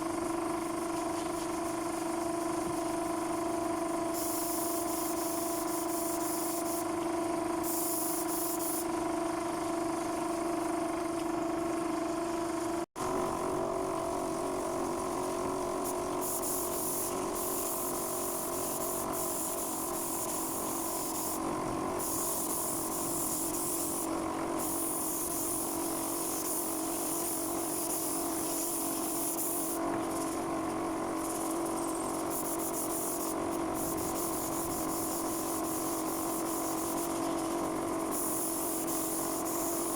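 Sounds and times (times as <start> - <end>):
air compressor humming: 0.0 - 39.9
spray gun hissing: 1.5 - 6.9, 7.6 - 8.8, 13.1 - 39.9.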